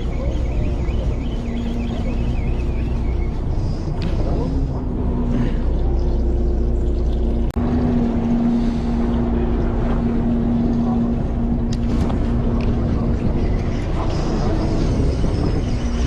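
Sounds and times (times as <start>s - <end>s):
boat engine droning: 0.0s - 16.0s
wind on microphone: 0.0s - 16.0s.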